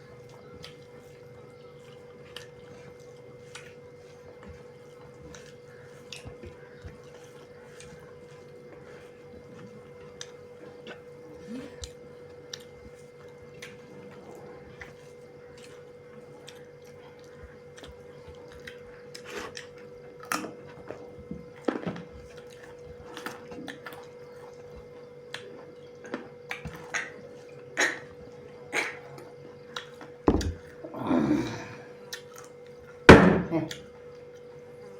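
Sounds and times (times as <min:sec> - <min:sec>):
faint steady hum: 0:00.0 - 0:34.9
chewing and mouth smacks: 0:00.1 - 0:30.8, 0:32.0 - 0:33.0.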